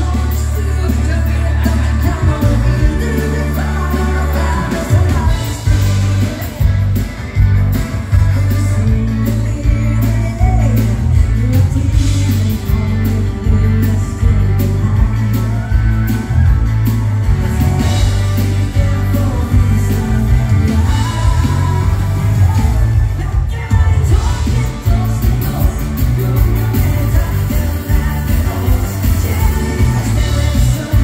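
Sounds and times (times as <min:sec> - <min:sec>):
person singing with band: 0:00.0 - 0:31.0.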